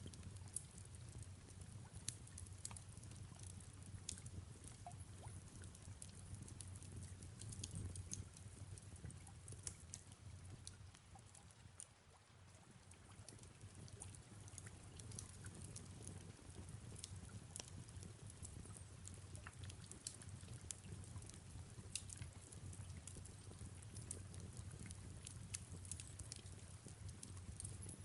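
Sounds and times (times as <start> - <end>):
fireplace crackling: 0.0 - 28.0
soft rain falling: 0.0 - 28.0.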